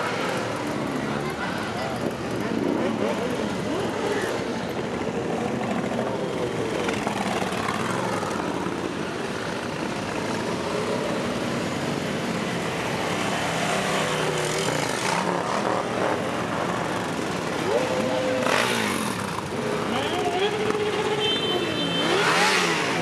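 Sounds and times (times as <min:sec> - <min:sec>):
motorcycles riding past: 0:00.0 - 0:23.0.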